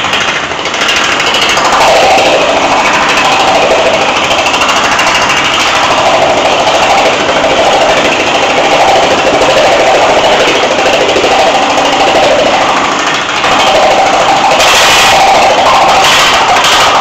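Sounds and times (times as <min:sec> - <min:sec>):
power hammer clattering on steel: 0:00.0 - 0:17.0.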